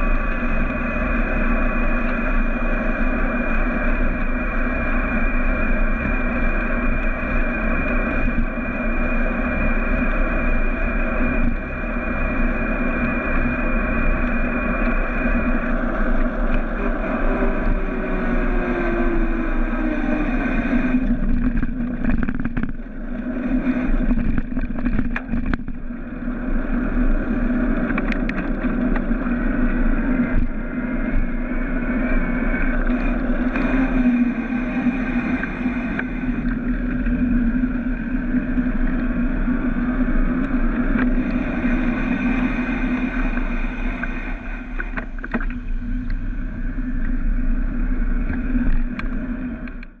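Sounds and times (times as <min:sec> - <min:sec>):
bike tyres on asphalt: 0:00.0 - 0:50.0
wind rushing on microphone: 0:00.0 - 0:50.0.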